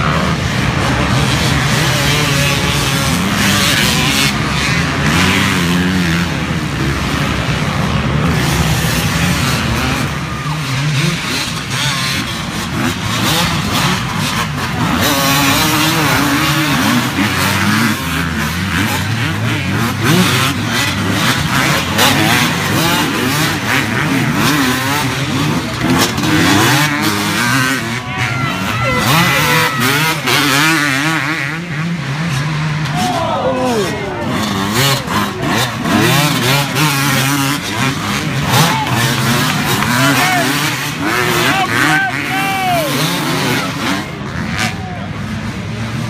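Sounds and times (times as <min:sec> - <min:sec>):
dirt bike engines revving: 0:00.0 - 0:46.0.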